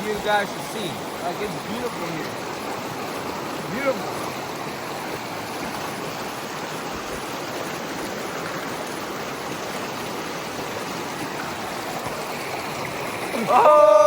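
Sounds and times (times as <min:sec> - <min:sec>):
stream flowing over rocks: 0:00.0 - 0:14.0.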